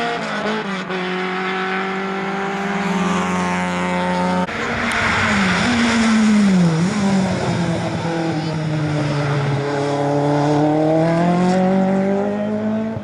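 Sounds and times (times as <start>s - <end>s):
rally car engine cornering: 0.0s - 13.0s
rally car engine driving away: 0.0s - 13.0s.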